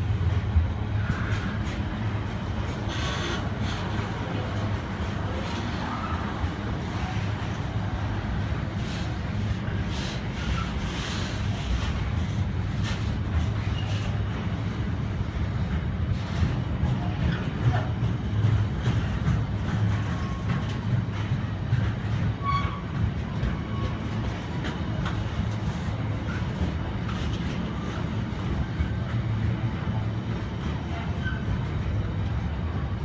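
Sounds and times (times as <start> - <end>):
steel wheels rumbling on rail: 0.0 - 33.0.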